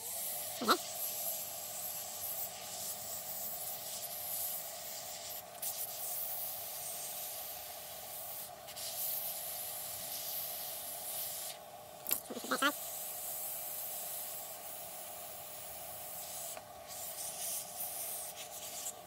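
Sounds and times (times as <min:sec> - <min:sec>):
fan whine: 0:00.0 - 0:19.0
hot air gun hissing: 0:00.0 - 0:19.0.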